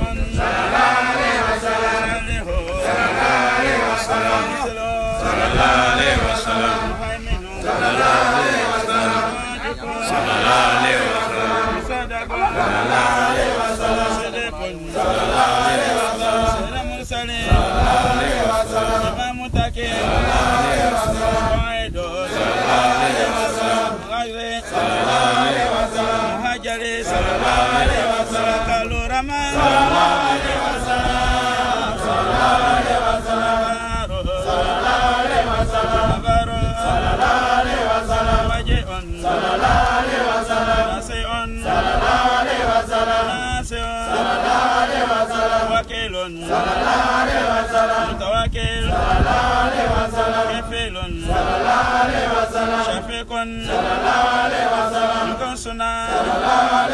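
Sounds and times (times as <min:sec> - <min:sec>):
men chanting: 0:00.0 - 0:56.9.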